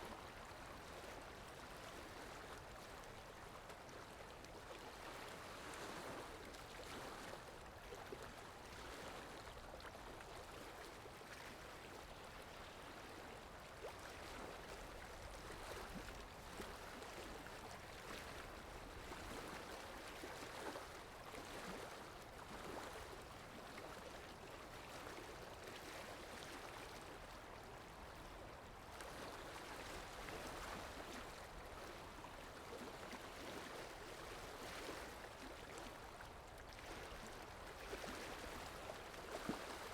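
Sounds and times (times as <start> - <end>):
faint rushing water: 0.0 - 39.9.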